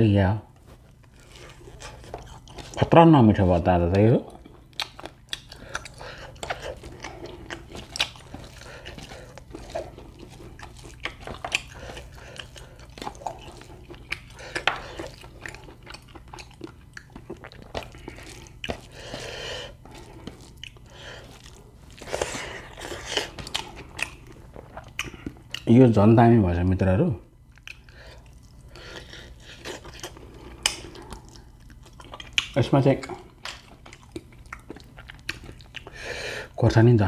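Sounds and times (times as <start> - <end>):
person chewing meat: 0.6 - 2.9, 3.9 - 25.7, 27.4 - 36.6.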